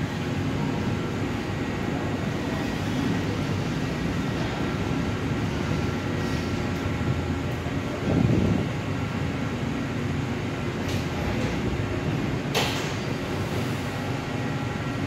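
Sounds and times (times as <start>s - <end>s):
train coaches rumbling on rails: 0.0s - 15.0s.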